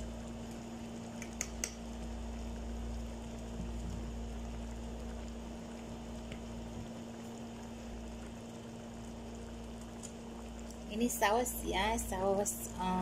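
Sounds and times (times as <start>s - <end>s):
constant low hum: 0.0s - 13.0s
sauce simmering in a frying pan: 0.0s - 13.0s.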